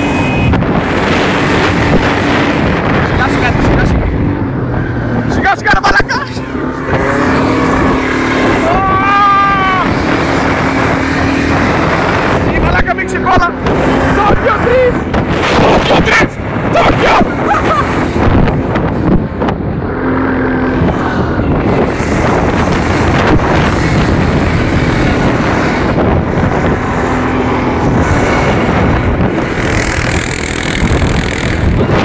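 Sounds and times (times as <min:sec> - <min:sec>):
vehicle engine running: 0:00.0 - 0:32.0
wind noise on microphone: 0:00.0 - 0:32.0.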